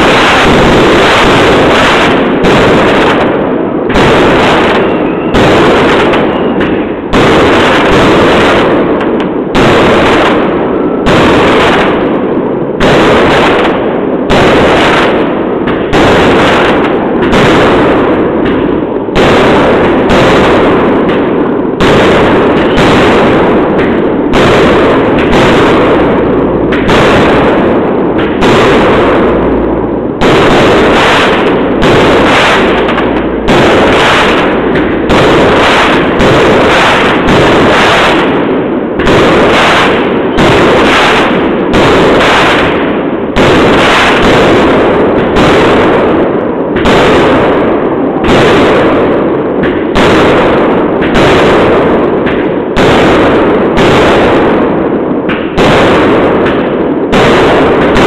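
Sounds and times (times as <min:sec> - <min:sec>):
fireworks banging: 0:00.0 - 0:58.0.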